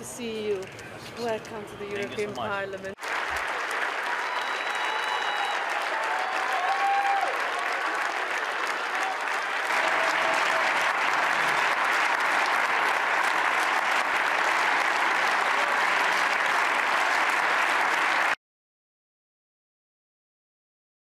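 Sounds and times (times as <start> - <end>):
crowd applauding: 0.0 - 18.4.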